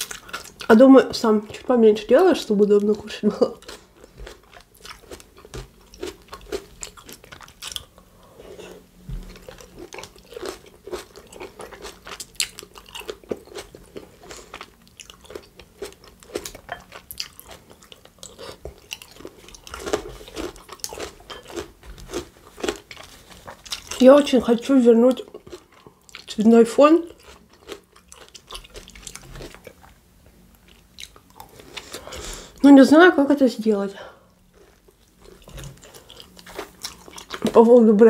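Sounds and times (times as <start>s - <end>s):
chewing crunchy salad: 0.0s - 32.2s, 34.3s - 37.8s.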